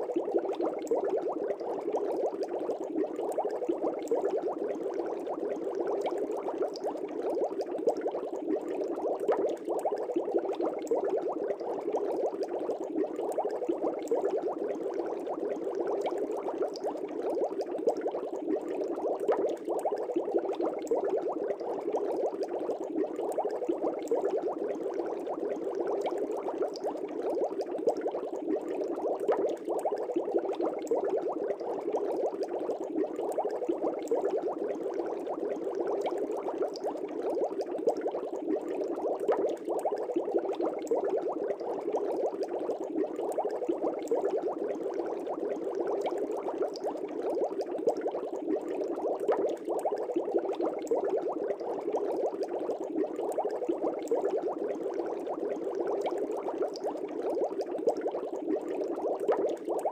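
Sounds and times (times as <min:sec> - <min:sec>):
air bubbles in water: 0:00.0 - 0:59.9.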